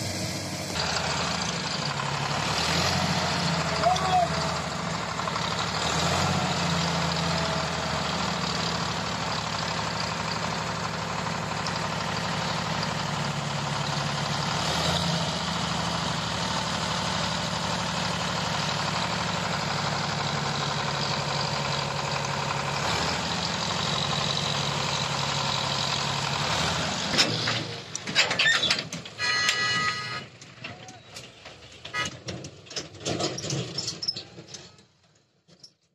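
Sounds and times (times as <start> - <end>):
tractor diesel engine running: 0.0 - 35.4.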